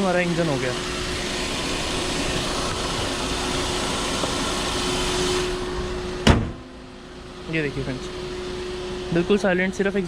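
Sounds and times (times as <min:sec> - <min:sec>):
cooling fan whirring: 0:00.0 - 0:10.0.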